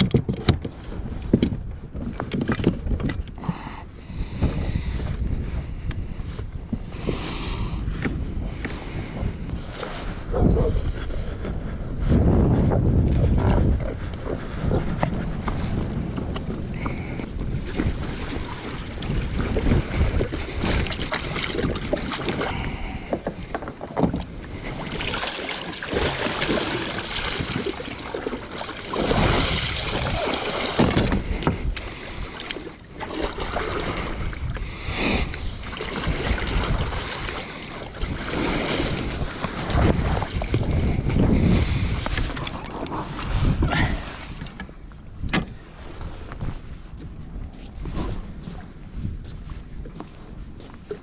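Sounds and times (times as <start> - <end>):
water noise from boat: 0.0 - 51.0
wind buffeting microphone: 0.0 - 51.0.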